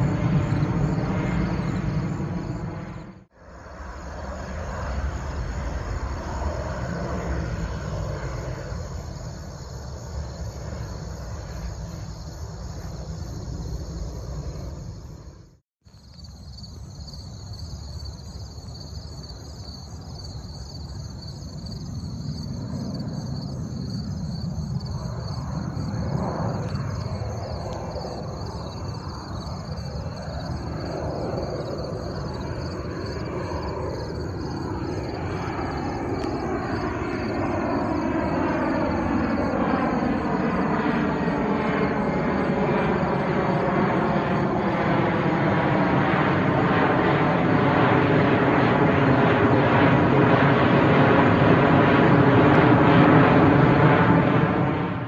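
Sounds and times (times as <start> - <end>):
distant jet engines rumbling: 0.0 - 55.0.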